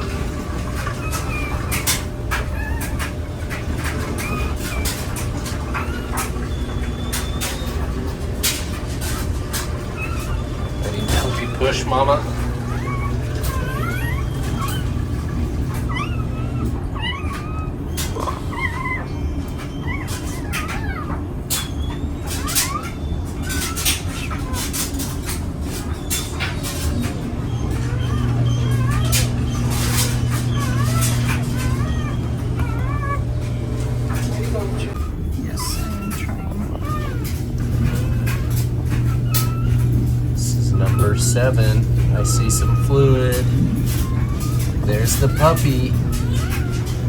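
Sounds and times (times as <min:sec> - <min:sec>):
steady low hum: 0:00.0 - 0:19.0, 0:25.7 - 0:47.0
clicks and rustles: 0:00.0 - 0:47.0
puppies squeaking: 0:00.0 - 0:47.0.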